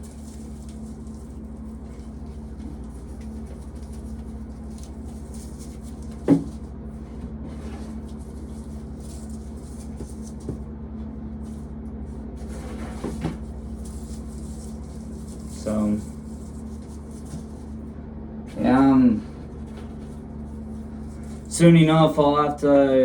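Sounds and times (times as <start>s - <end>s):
electric fan humming: 0.0s - 23.0s.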